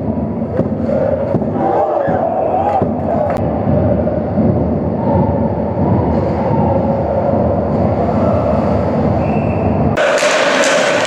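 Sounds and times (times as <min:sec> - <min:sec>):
crowd chanting and cheering: 0:00.6 - 0:09.2, 0:09.9 - 0:11.0.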